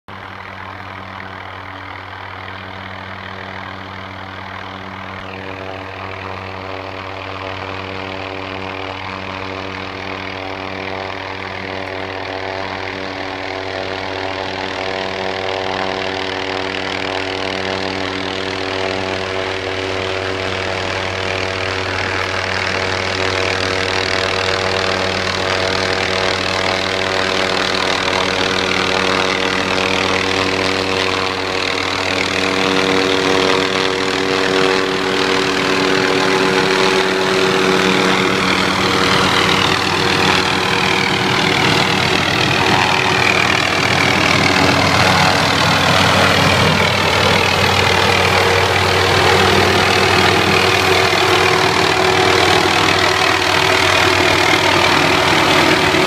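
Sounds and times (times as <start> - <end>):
helicopter rotor drone: 0.1 - 56.0.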